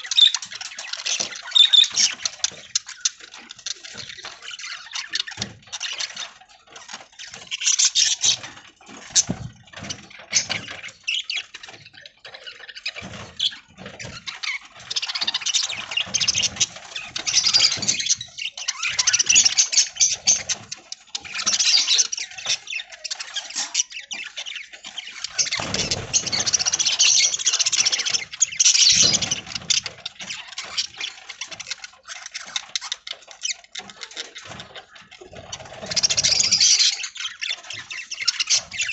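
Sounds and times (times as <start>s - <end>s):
budgies chattering and chirping: 0.0s - 38.9s.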